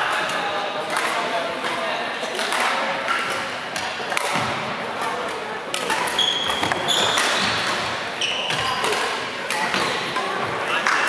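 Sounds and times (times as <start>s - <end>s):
racket hitting shuttlecock: 0.2s - 11.0s
court shoes squeaking: 1.8s - 11.0s.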